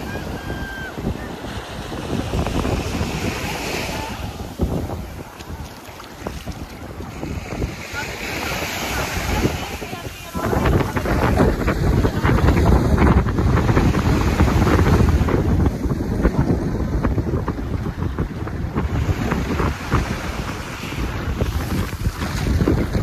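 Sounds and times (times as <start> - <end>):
surf washing on shore: 0.0 - 23.0
wind buffeting microphone: 0.0 - 23.0.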